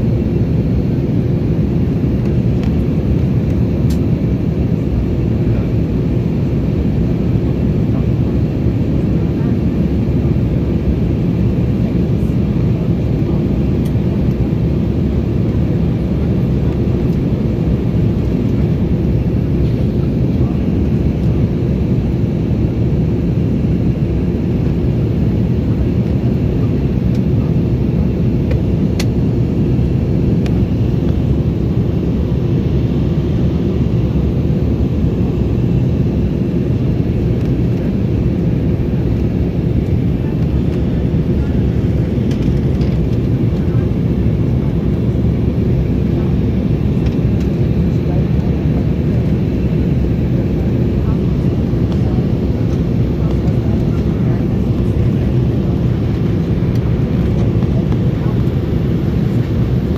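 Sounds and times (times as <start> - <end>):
airliner engine and airflow noise: 0.0 - 59.9.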